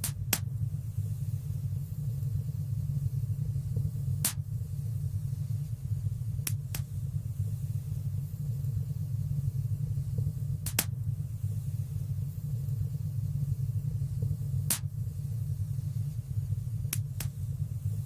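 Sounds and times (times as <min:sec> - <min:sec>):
low rumble of flames: 0:00.0 - 0:18.0.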